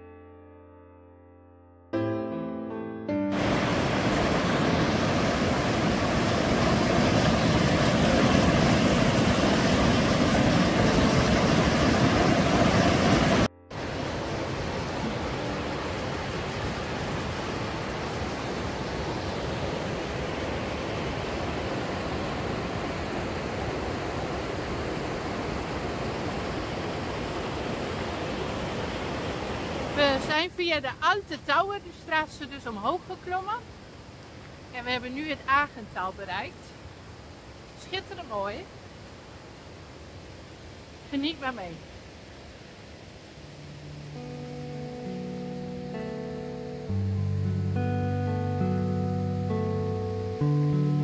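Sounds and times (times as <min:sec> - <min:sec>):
stream rushing over rocks: 0:03.3 - 0:47.4.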